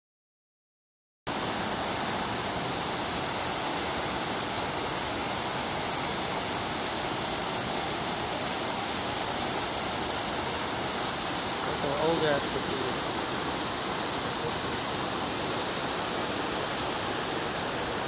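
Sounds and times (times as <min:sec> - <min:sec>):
river rapids rushing: 0:01.3 - 0:18.0.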